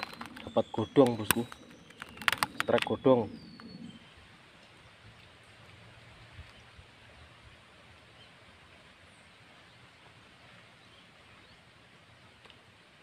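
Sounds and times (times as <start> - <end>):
soft outdoor hiss: 0.0 - 13.0.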